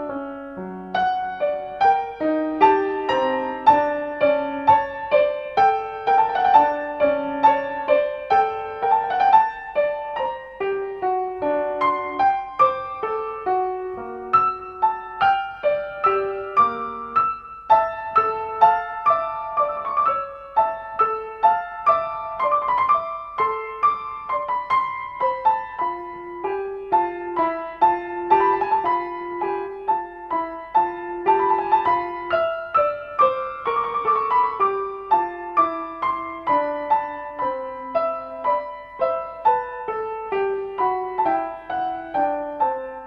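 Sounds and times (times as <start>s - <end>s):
solo piano music: 0.0s - 43.0s.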